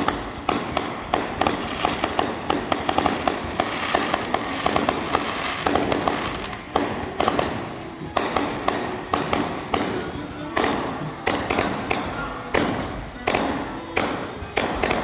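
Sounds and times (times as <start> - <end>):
fireworks crackling: 0.0 - 15.0
fireworks popping and banging: 0.0 - 15.0.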